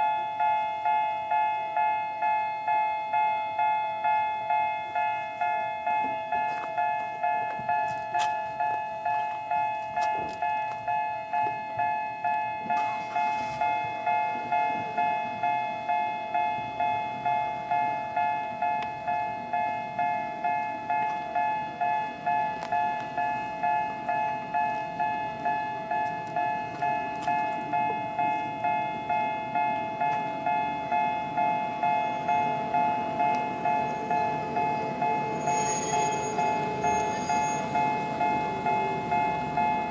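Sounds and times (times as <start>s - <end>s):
level crossing warning bell: 0.0s - 39.9s
train rumble: 4.4s - 39.9s.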